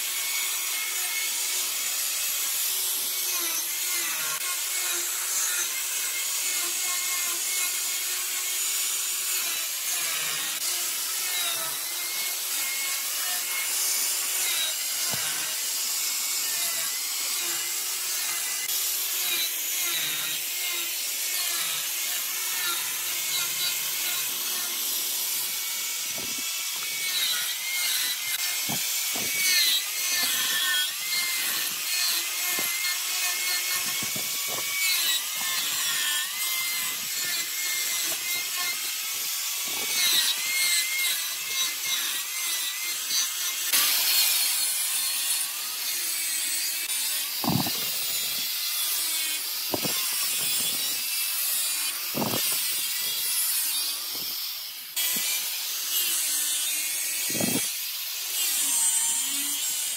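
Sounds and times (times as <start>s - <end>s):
angle grinder grinding wood: 0.0s - 59.9s.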